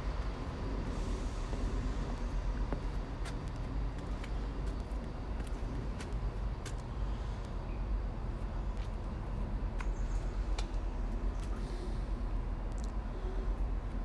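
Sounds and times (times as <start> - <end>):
train rumbling past: 0.0 - 12.7.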